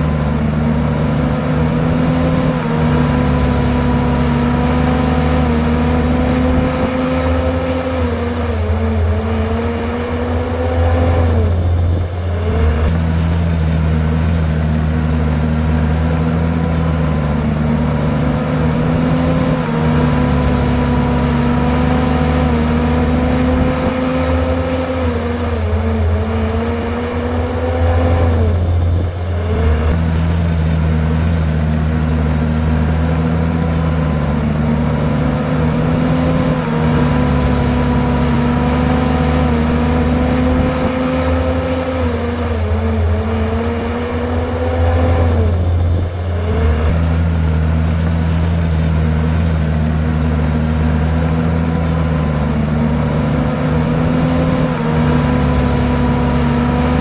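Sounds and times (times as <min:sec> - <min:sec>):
bulldozer engine under load: 0:00.0 - 0:57.0.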